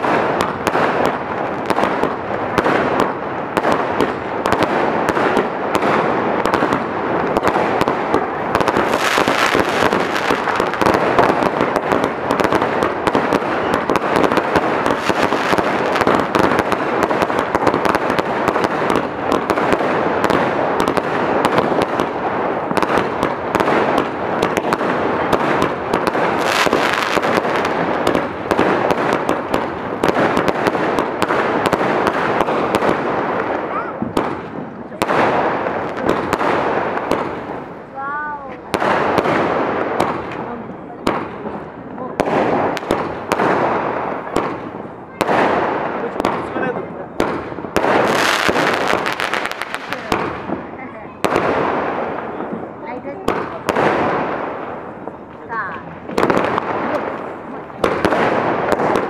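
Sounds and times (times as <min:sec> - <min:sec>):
fireworks launches and bursts: 0:00.0 - 0:59.0.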